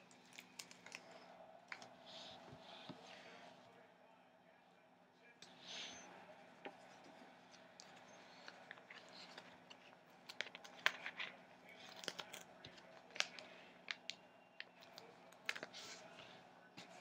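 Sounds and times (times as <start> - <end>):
paper crinkling and rustling: 0.0 - 3.4, 6.6 - 17.0.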